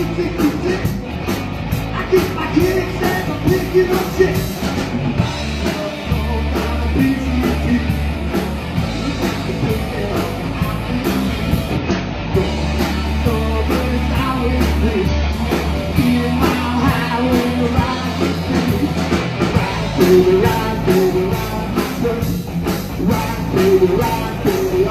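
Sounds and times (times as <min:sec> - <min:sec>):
live rock band playing: 0:00.0 - 0:24.9.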